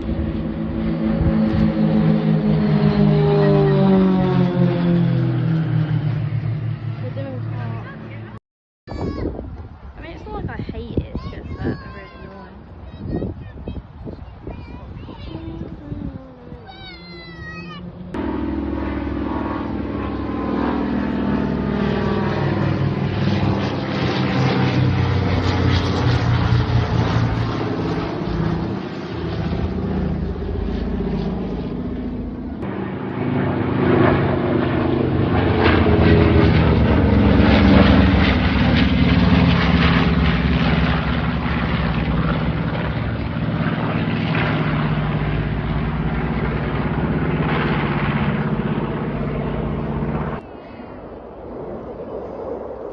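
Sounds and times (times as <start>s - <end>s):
propeller aircraft engine running: 0.0s - 52.9s.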